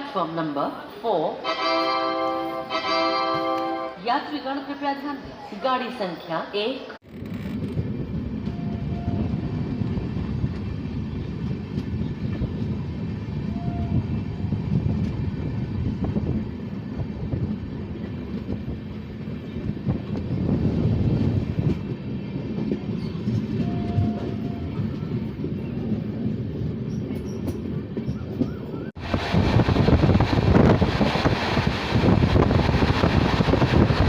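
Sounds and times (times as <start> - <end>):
train rumbling: 0.0 - 4.7, 7.0 - 34.0.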